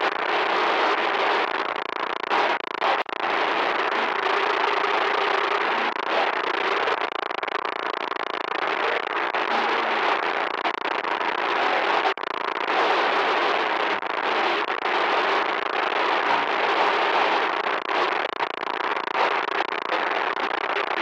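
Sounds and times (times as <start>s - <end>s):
harsh crackling static: 0.0s - 21.0s.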